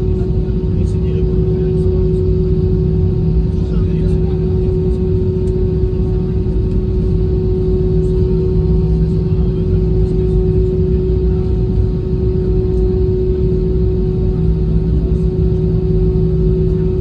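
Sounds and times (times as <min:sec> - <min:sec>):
constant hum: 0:00.0 - 0:17.0
jet engines idling rumble: 0:00.0 - 0:17.0
lower hum: 0:00.0 - 0:17.0.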